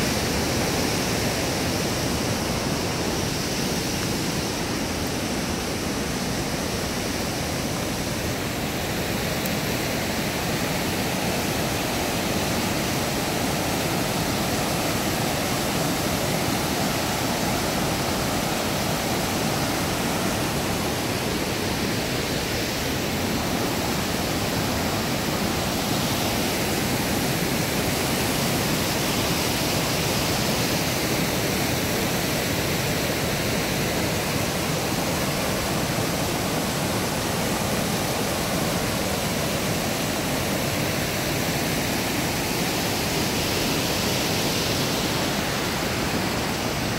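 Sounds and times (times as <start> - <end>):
river rapids and waterfall rushing: 0.0 - 46.9.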